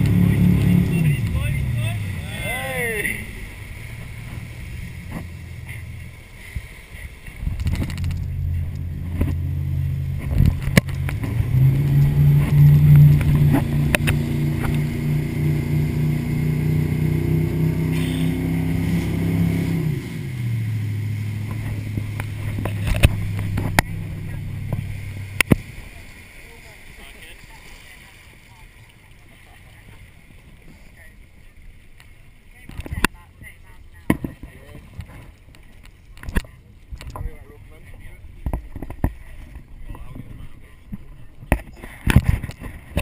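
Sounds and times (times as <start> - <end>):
motorboat engine revving: 0.0 - 43.0.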